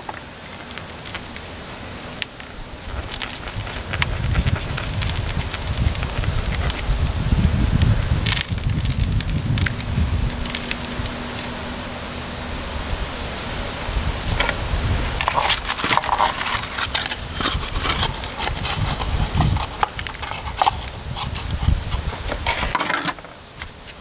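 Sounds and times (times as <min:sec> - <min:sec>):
steady low rumble: 0:00.0 - 0:22.5.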